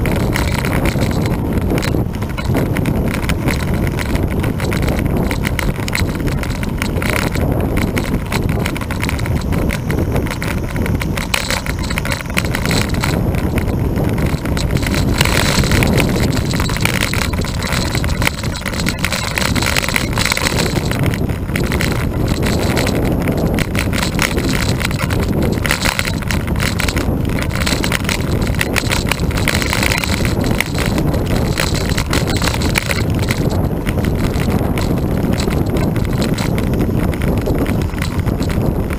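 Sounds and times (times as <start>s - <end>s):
bike tyres rolling on asphalt: 0.0s - 38.9s
wind rushing over microphone: 0.0s - 38.9s.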